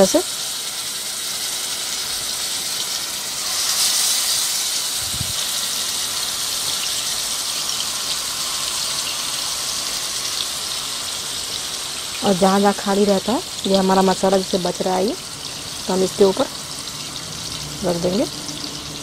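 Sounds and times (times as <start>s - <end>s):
fish sizzling in a frying pan: 0.0s - 19.0s.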